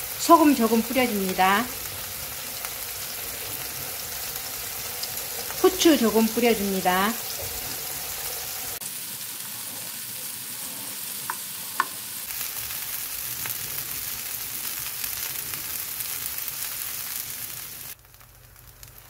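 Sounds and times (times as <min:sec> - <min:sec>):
scallops searing in oil: 0:00.0 - 0:19.0.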